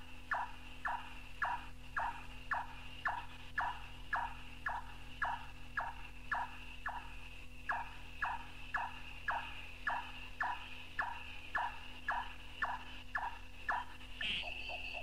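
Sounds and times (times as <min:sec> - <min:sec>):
high background buzz: 0:00.0 - 0:15.0
low tape hum: 0:00.0 - 0:15.0
nightjar chop calls: 0:00.0 - 0:15.0.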